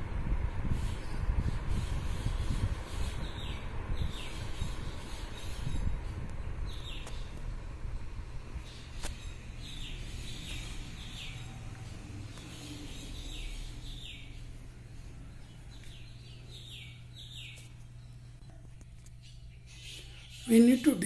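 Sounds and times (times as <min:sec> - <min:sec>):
ceiling fan rumble: 0:00.0 - 0:21.0
bird chirping: 0:01.8 - 0:07.3, 0:08.6 - 0:21.0.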